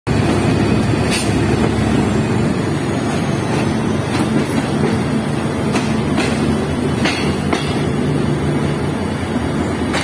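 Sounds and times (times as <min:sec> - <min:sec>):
diesel locomotive engine drone: 0:00.1 - 0:10.0.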